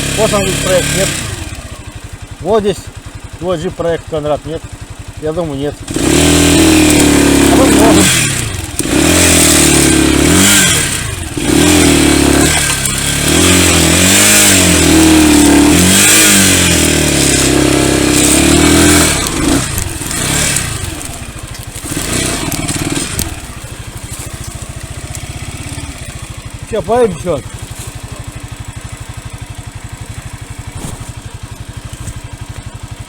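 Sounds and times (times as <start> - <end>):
motorbike engine idling: 0.0 - 33.0
small motorbike engine revving: 0.0 - 33.0.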